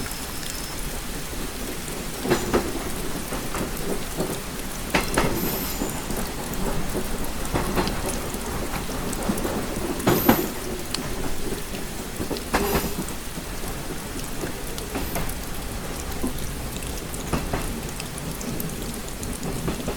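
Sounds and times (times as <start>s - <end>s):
rain pattering on window: 0.0s - 19.9s.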